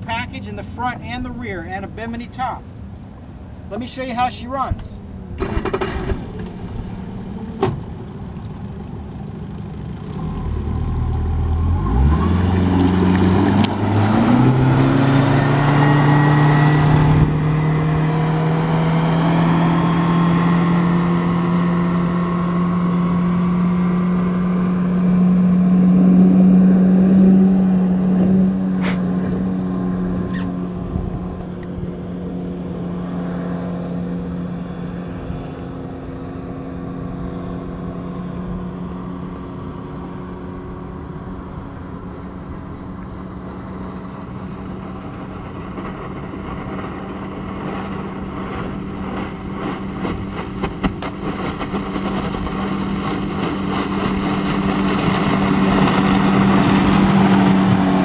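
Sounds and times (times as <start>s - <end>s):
outboard motor running: 4.7s - 58.0s.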